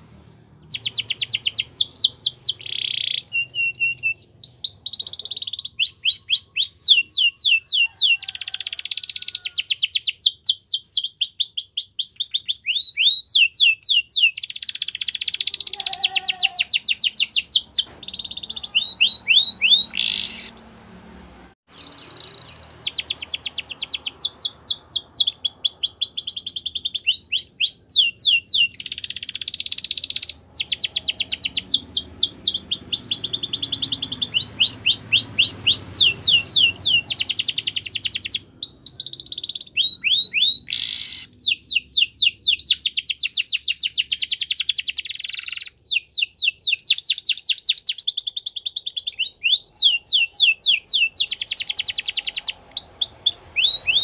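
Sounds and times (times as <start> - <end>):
canary singing trills: 0.4 - 54.0.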